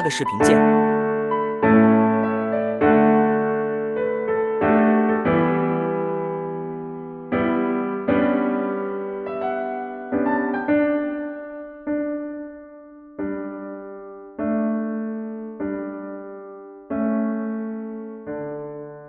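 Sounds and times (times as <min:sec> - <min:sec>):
slow solo piano chords: 0:00.0 - 0:19.0.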